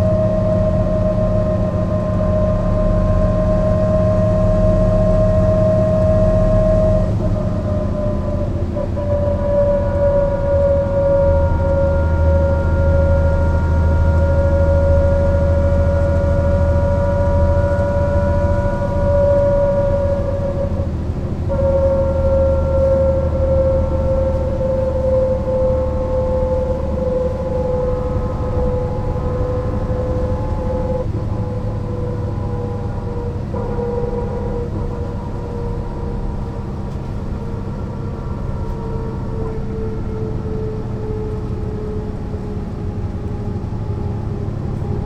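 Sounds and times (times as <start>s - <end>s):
bus engine rumble: 0.0s - 45.0s
high steady whine: 0.0s - 45.0s.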